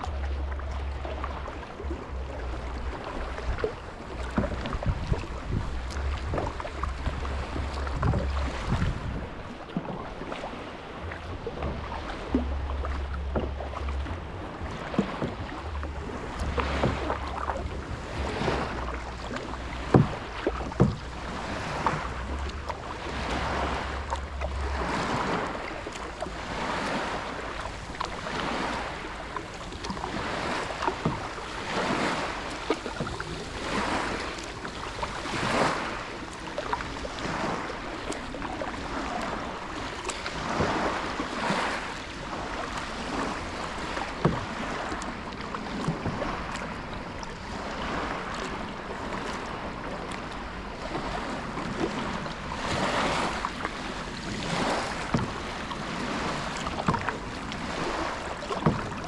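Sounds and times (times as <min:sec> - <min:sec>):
paddle splashing water: 0:00.0 - 0:59.0
wind on microphone: 0:00.0 - 0:59.0.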